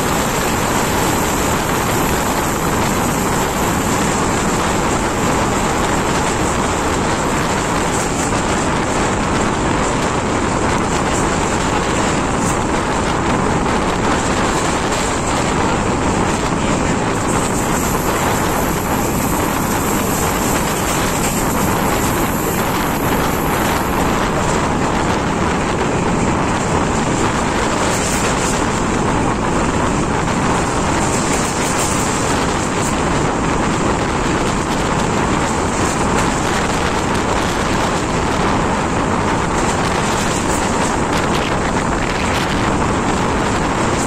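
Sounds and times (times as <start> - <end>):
train running noise: 0.0 - 44.0
wind on microphone: 0.0 - 44.0.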